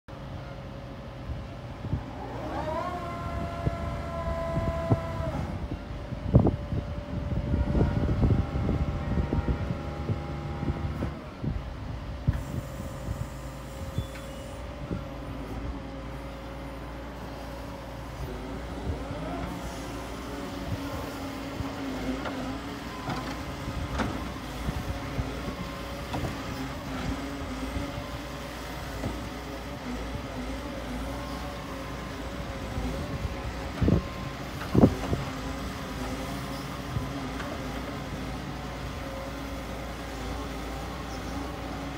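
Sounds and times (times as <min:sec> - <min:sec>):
excavator diesel engine working: 0:00.1 - 0:41.9.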